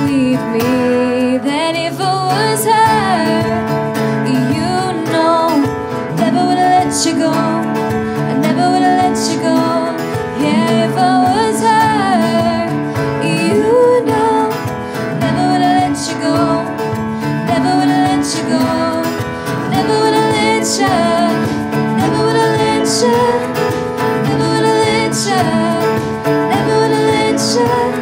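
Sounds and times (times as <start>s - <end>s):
acoustic pop band playing: 0.0s - 28.0s
woman singing: 0.0s - 28.0s.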